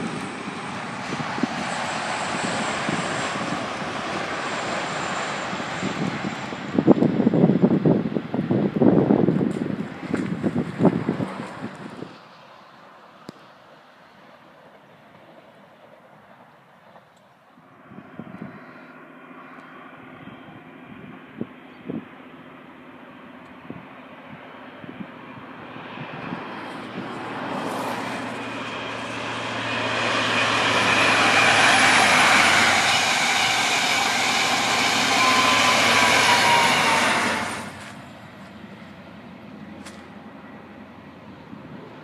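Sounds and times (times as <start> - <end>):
diesel train passing at speed: 0.0 - 42.0.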